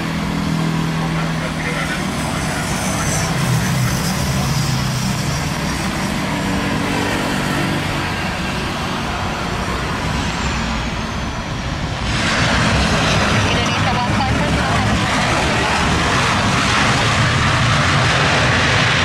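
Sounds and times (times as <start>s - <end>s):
jet engine whine falling: 0.0s - 19.0s
jet engines rushing: 0.0s - 19.0s
jet touching down: 0.0s - 19.0s.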